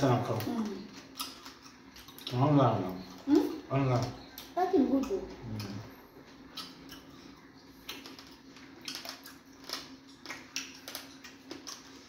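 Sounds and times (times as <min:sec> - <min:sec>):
chewing and lip smacks: 0:00.3 - 0:12.0.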